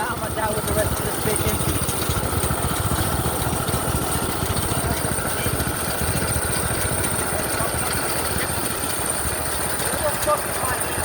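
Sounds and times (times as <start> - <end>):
minibike engine chugging: 0.0 - 11.0.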